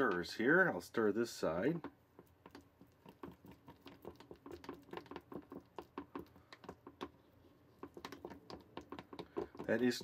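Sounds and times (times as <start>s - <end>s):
stirrer tapping against cup: 0.0s - 0.3s, 1.8s - 10.0s.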